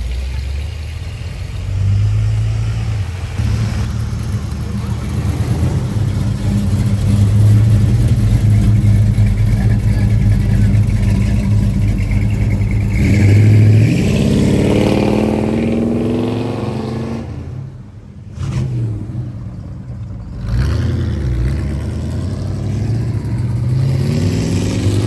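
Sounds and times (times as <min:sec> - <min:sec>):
car engines rumbling: 0:00.0 - 0:25.0
car revving and accelerating: 0:01.5 - 0:25.0.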